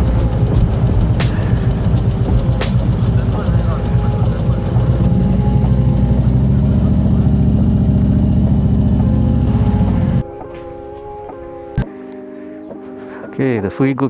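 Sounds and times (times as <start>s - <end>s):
motorcycle engine rumbling: 0.0s - 11.9s
background music: 0.0s - 14.0s.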